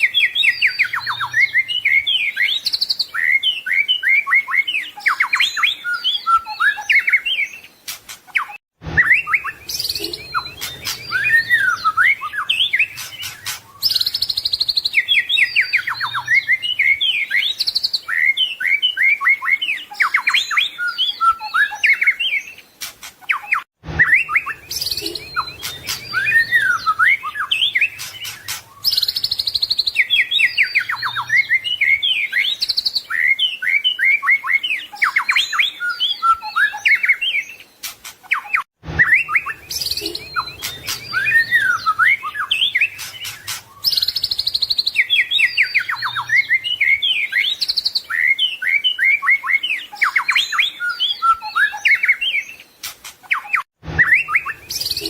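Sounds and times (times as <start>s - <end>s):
songbird singing whistles and trills: 0.0s - 55.0s.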